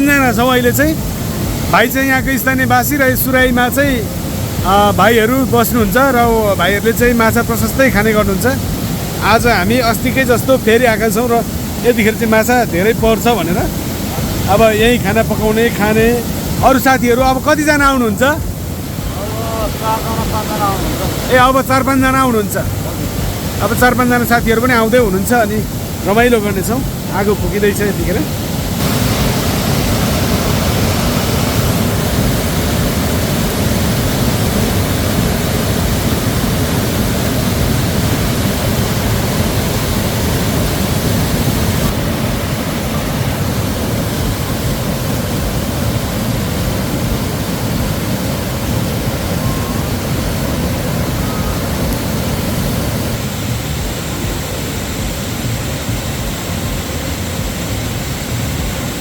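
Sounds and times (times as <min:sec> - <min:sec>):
river rushing over its bed: 0:00.0 - 0:59.0.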